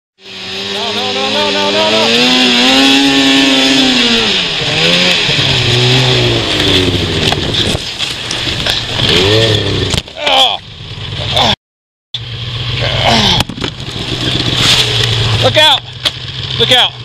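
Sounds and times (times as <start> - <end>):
snowmobile engine revving: 0.2 - 11.6, 12.4 - 17.0
wind: 0.2 - 11.6, 12.2 - 17.0.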